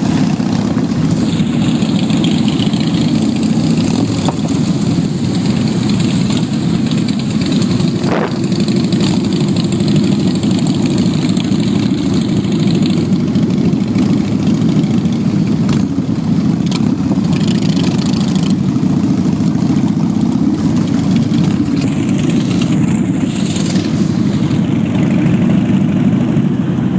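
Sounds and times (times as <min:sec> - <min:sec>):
motorcycle engines running: 0:00.0 - 0:26.9.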